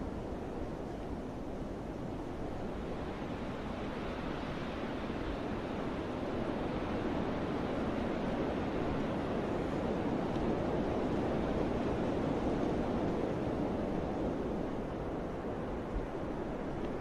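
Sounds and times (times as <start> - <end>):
wind rushing through trees: 0.0 - 17.0.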